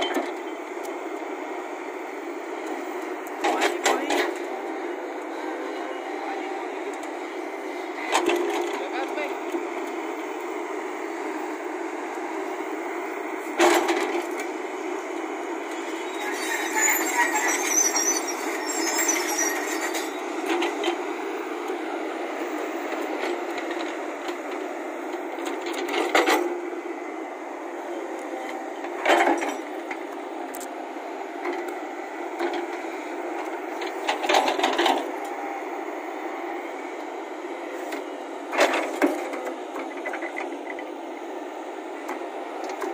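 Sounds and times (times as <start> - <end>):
excavator running: 0.0 - 42.9.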